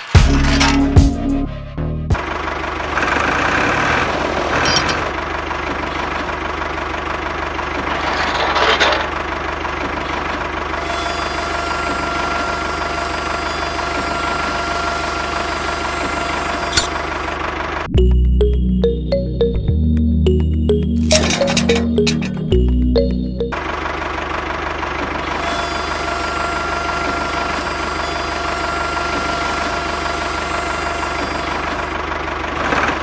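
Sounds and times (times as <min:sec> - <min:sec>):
tractor engine running: 0:02.1 - 0:33.0.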